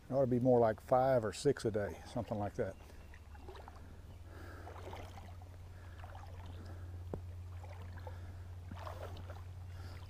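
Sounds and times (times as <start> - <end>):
steady low hum: 0.0 - 10.0
creek water sloshing and trickling: 0.1 - 10.0.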